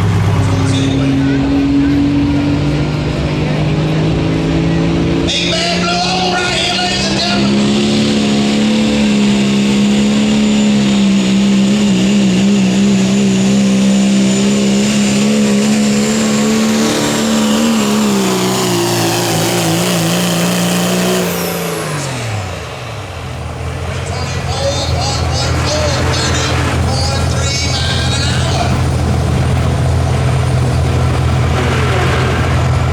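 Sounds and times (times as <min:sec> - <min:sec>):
diesel truck engine at high revs: 0:00.0 - 0:32.9.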